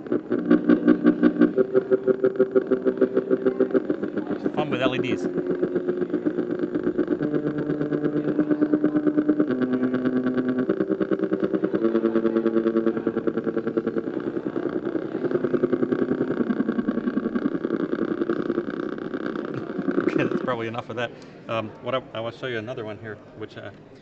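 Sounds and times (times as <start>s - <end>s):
buzzing electronic tones: 0.0s - 21.2s.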